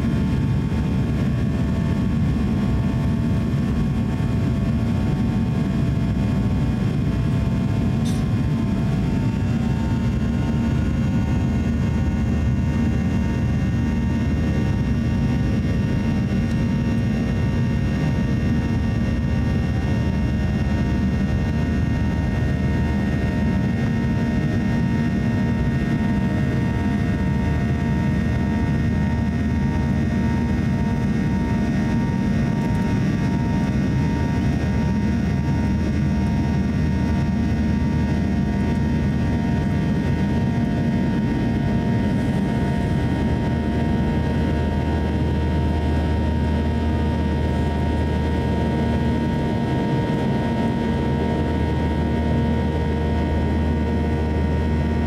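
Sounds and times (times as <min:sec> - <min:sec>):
aircraft cabin roar: 0:00.0 - 0:55.0.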